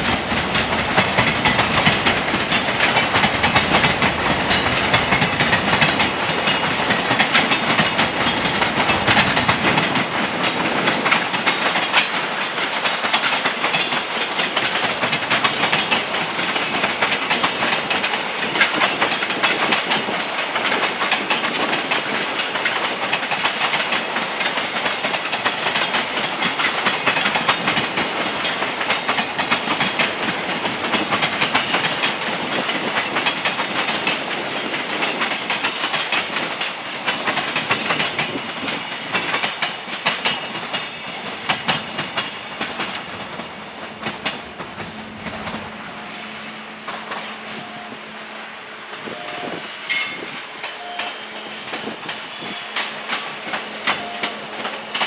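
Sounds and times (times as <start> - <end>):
train wheels clattering over rail joints: 0.0 - 45.8, 46.4 - 47.7, 49.8 - 55.0.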